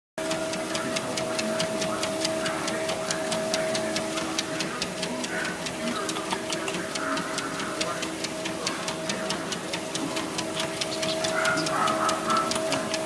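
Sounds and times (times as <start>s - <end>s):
rapid even ticking: 0.2s - 13.0s
treadmill motor hum: 0.2s - 13.0s.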